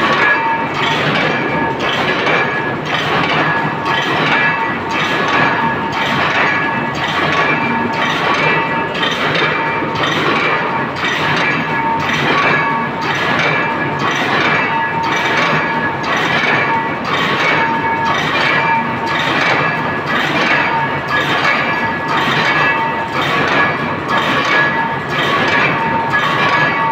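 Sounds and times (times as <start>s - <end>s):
steady metallic ringing: 0.0s - 26.9s
weaving loom metallic clank: 0.0s - 26.9s.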